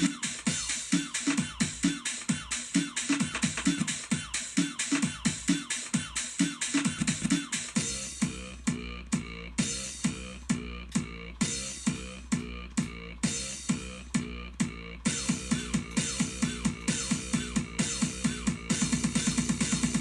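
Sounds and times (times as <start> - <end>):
electronic drum beat: 0.0 - 20.0.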